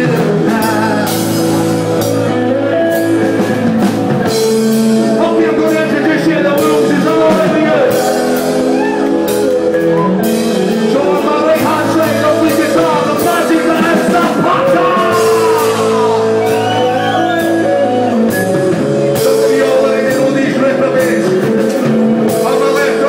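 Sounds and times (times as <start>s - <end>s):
live rock band: 0.0s - 23.0s
person singing: 0.0s - 23.0s.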